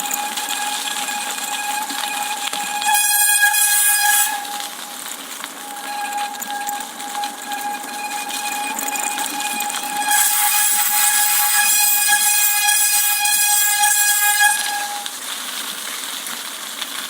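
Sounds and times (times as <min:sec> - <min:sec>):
hissing rush: 0:00.0 - 0:15.2
brakes squealing: 0:00.0 - 0:15.4.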